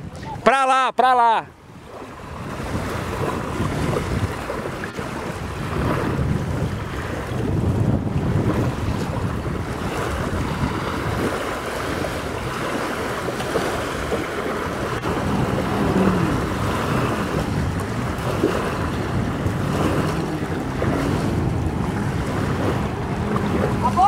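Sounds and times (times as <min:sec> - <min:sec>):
wind buffeting microphone: 0:00.0 - 0:00.6, 0:01.5 - 0:24.0
jet ski engine: 0:00.0 - 0:24.0
water lapping: 0:00.0 - 0:24.0.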